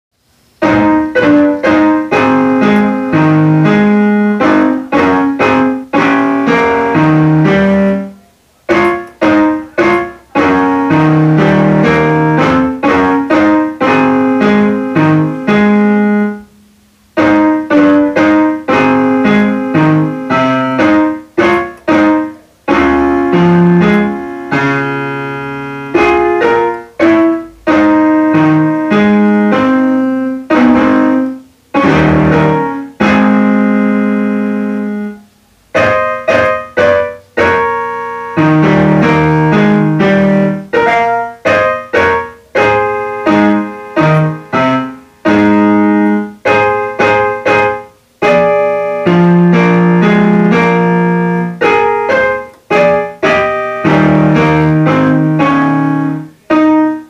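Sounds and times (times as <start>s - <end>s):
electronic keyboard piano melody: 0.2s - 57.0s.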